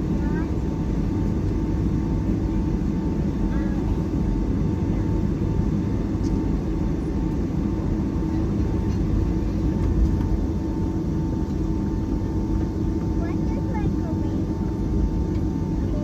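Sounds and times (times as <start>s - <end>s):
jet engine drone in cabin: 0.0s - 16.0s.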